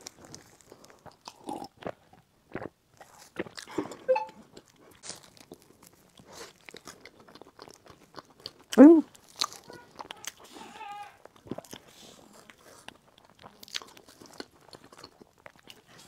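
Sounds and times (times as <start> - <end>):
crisp bite into pastry: 0.0 - 16.0
crunchy chewing: 0.0 - 16.0.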